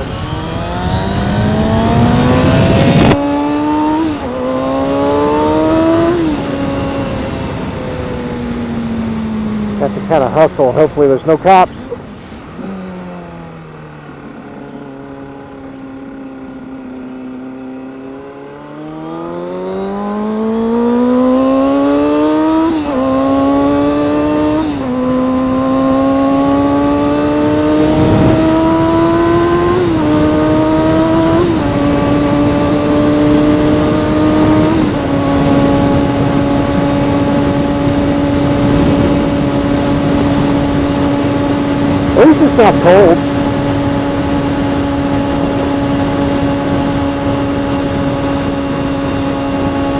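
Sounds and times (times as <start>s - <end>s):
wind noise: 0.0s - 10.9s, 20.2s - 49.9s
motorcycle engine accelerating: 0.0s - 49.9s.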